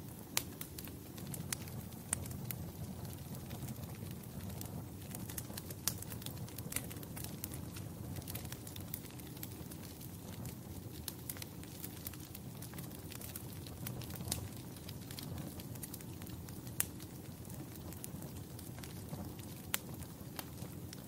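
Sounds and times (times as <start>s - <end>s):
fire pops and snaps: 0.0s - 21.0s
wood fire crackling: 0.0s - 21.0s.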